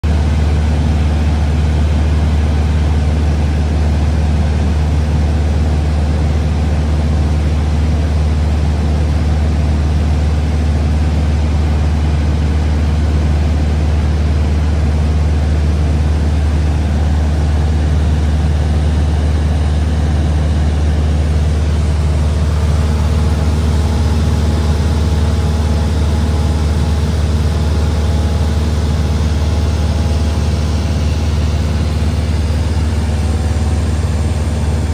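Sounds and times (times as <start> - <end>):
airplane engine droning in cabin: 0.0 - 34.9.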